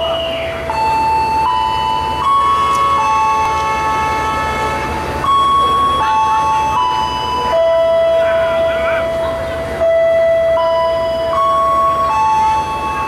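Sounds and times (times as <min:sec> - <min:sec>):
loud held high tones: 0:00.0 - 0:13.0
train rumble: 0:00.0 - 0:13.0.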